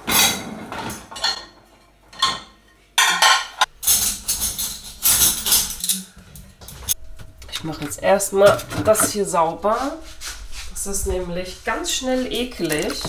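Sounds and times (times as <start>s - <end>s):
dishes and racks clattering: 0.0s - 10.0s, 10.8s - 13.0s.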